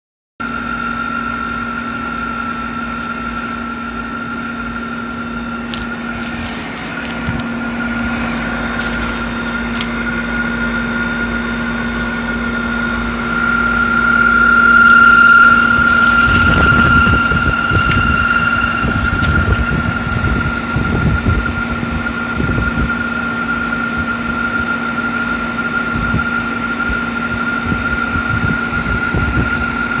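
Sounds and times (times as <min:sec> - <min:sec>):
air conditioner running: 0:00.4 - 0:30.0
high-pitched whine: 0:00.4 - 0:30.0
low steady hum: 0:00.4 - 0:30.0
low throbbing: 0:00.4 - 0:30.0.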